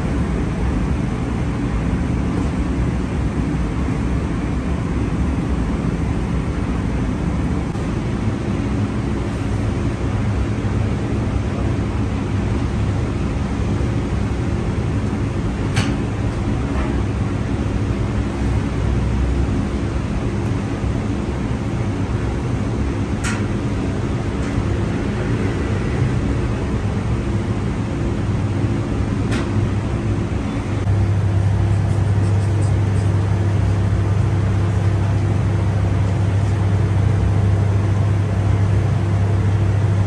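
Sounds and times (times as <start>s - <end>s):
machinery humming: 0.0s - 40.0s.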